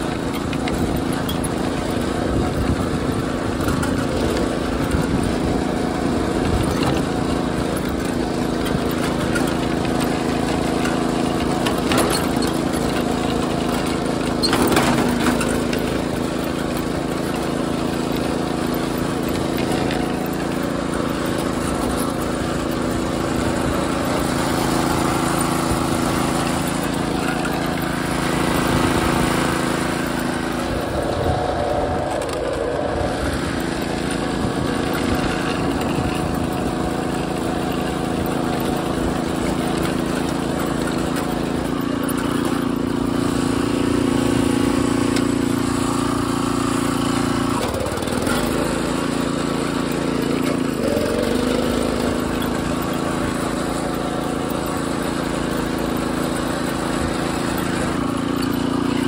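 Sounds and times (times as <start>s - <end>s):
engine knock: 0.0s - 59.0s
small engine running under load: 0.0s - 59.0s.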